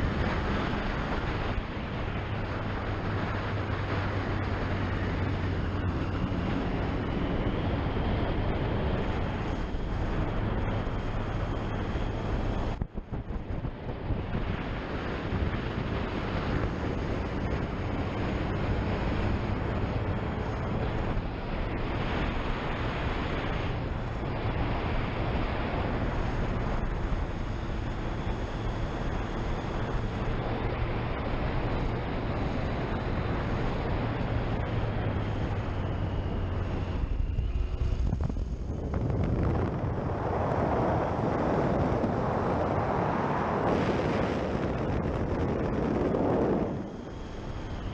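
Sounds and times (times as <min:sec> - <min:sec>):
heavy wind rush: 0:00.0 - 0:47.9.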